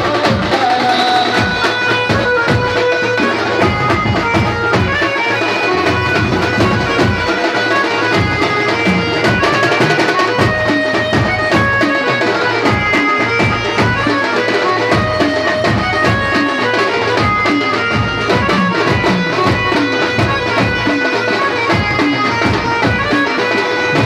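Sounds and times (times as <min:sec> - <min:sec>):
steady drum beat: 0:00.0 - 0:24.0
wind instrument melody: 0:00.0 - 0:24.0.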